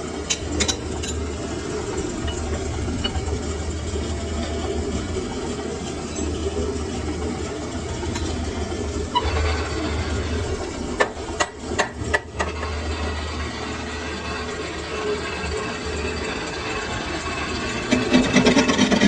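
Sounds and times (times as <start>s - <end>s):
lathe machine humming: 0.0s - 19.0s.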